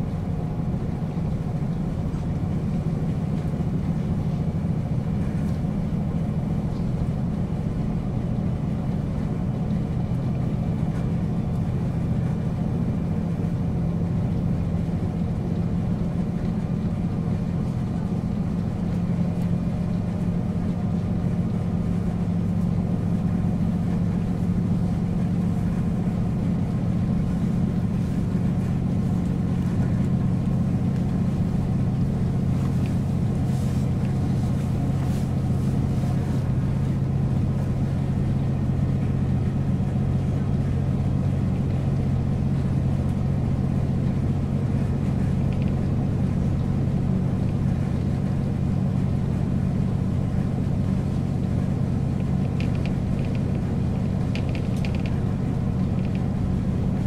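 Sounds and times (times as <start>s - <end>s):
diesel railcar engine drone: 0.0s - 57.0s
train running rumble: 0.0s - 57.0s.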